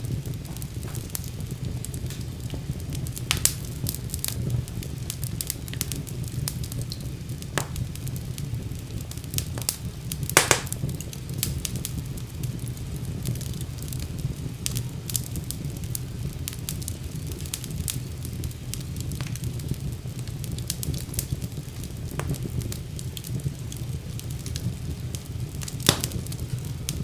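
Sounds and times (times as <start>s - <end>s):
fire crackling and popping: 0.0s - 27.0s
fire low rumble: 0.0s - 27.0s.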